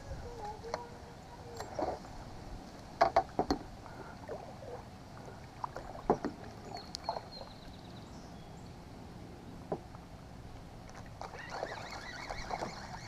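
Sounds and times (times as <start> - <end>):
water lapping: 0.1 - 9.0, 10.9 - 13.0.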